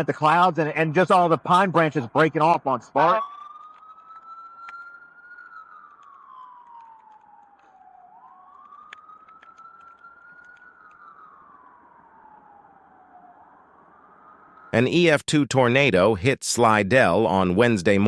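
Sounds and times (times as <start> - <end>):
faint siren wailing: 0.0 - 16.1.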